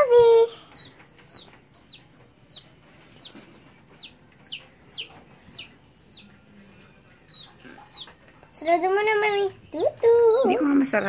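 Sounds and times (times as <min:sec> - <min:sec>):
baby chick peeping: 0:00.0 - 0:11.0.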